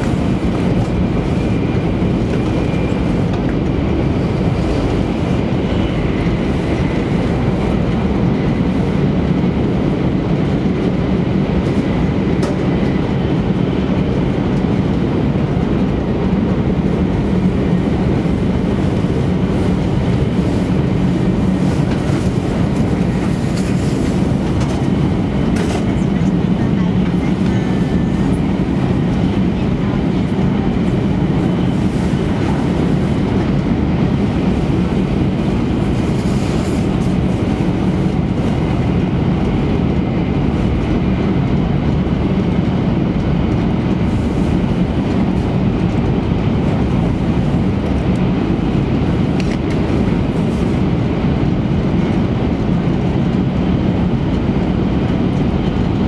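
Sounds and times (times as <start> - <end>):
train cabin running noise: 0.0 - 56.0.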